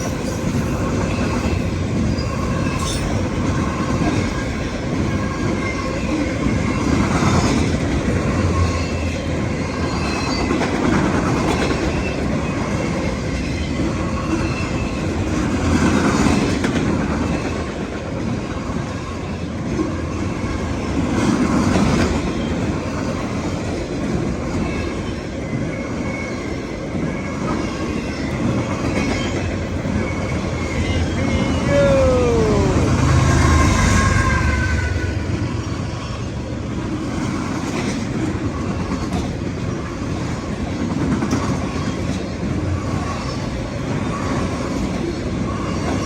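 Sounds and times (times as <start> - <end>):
freight train rumbling past: 0.0 - 46.0.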